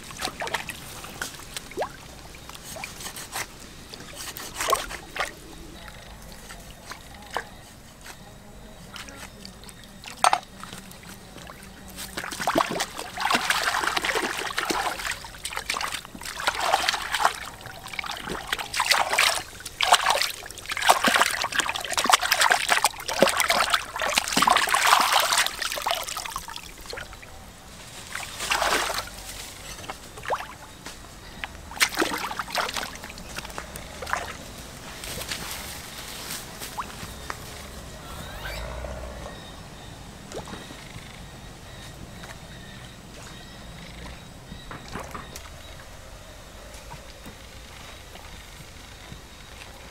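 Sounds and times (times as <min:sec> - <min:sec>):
water splashing and sloshing: 0:00.0 - 0:49.9.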